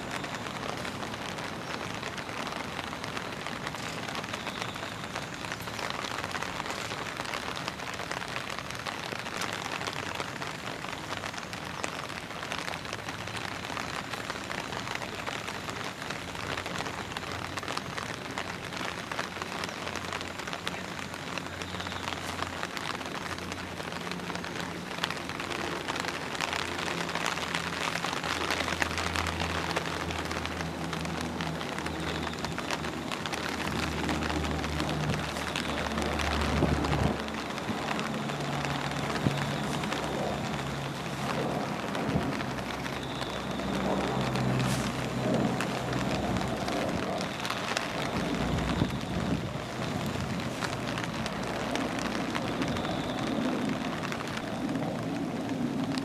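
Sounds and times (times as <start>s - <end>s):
rain on leaves and ground: 0.0s - 56.0s.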